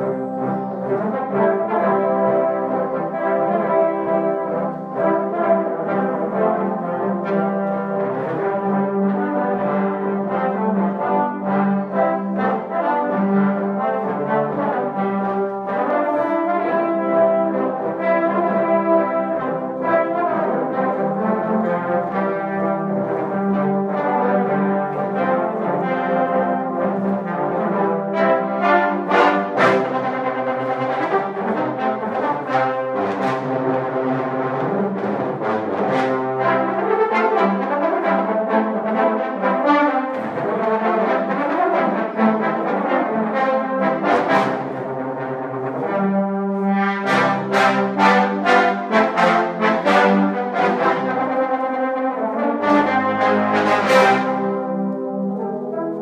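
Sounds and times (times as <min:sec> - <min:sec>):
trombone choir playing: 0:00.0 - 0:56.0.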